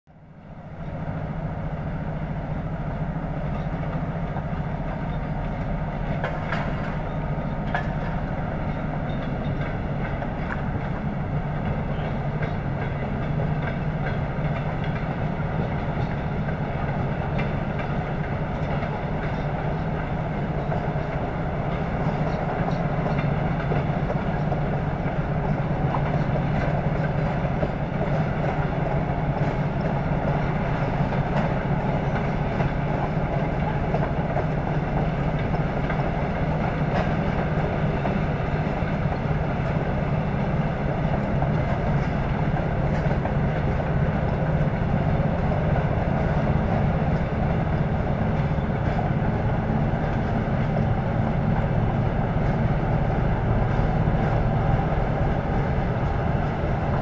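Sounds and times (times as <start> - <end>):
wheels clicking over rail joints: 0.8 - 57.0.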